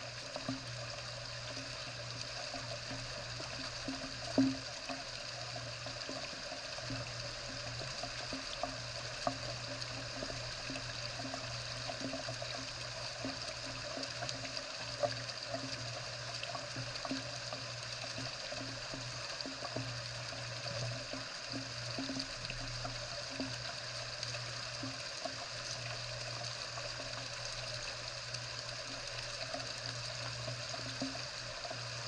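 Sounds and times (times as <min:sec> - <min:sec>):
sharp drips and ticks: 0:00.0 - 0:32.0.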